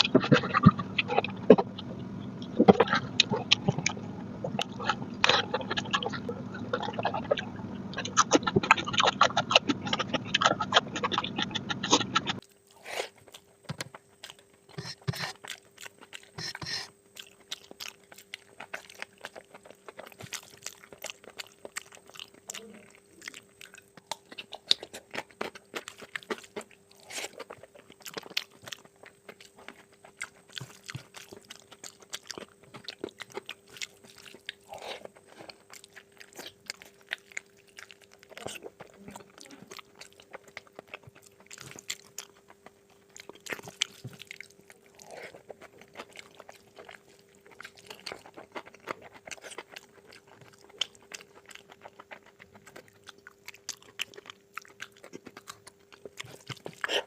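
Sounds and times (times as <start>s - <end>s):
chewing with wet mouth clicks: 0.0s - 57.0s
faint steady hum: 0.0s - 57.0s.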